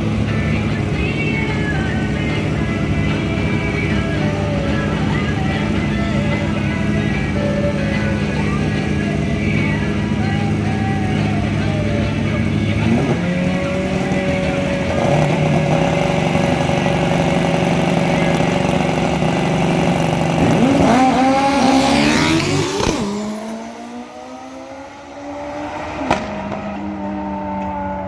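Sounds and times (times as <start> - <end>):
racing motorcycle engines revving: 0.0 - 28.0.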